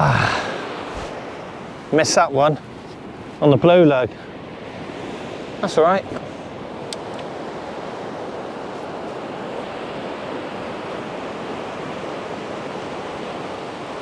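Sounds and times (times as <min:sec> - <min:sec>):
sea surf washing on beach: 0:00.0 - 0:14.0
wind: 0:00.0 - 0:14.0.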